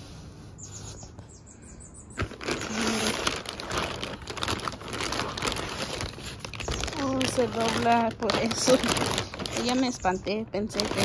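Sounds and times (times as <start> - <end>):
plastic bag crinkling and rustling: 2.2 - 11.0.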